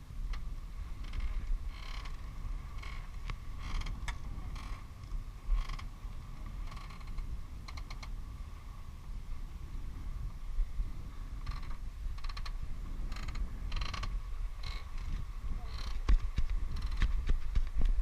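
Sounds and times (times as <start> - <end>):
boat creaking: 0.1 - 8.2, 11.2 - 17.6.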